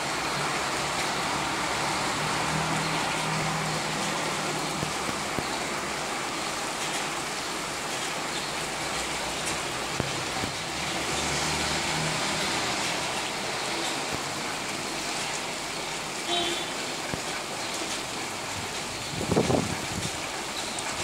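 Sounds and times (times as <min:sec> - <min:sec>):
cars passing on wet road: 0:00.0 - 0:21.0
steady rain: 0:00.0 - 0:21.0
wind: 0:00.0 - 0:21.0.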